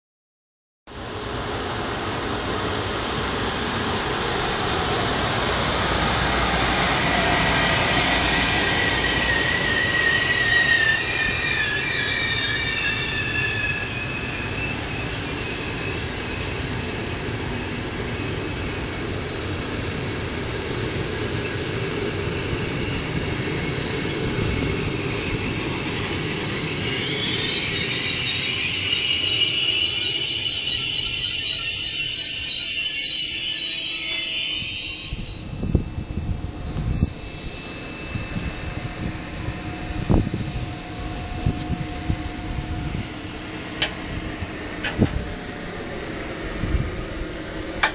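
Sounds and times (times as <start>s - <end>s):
train wheels rumbling on rails: 0.9s - 47.9s
train brakes squealing: 5.9s - 45.1s.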